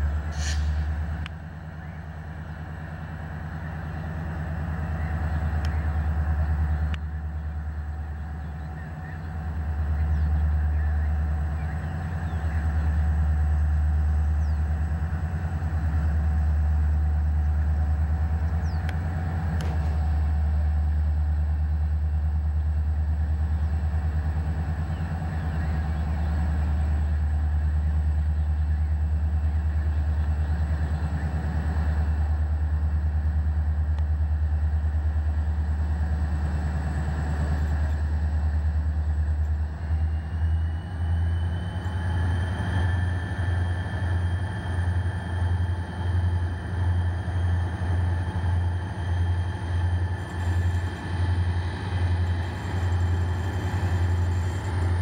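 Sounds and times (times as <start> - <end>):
locomotive engine rumble: 0.0 - 55.0.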